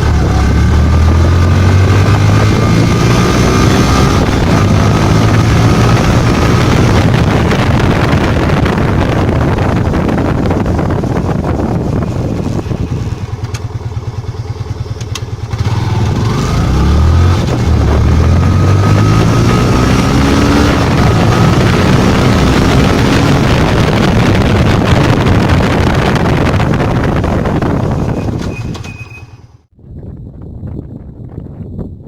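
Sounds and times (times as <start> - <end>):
motorcycle engine revving: 0.0 - 29.7.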